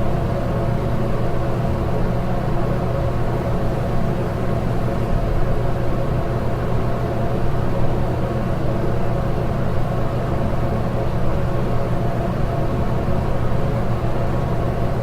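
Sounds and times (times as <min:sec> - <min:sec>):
low hum of air: 0:00.0 - 0:15.0.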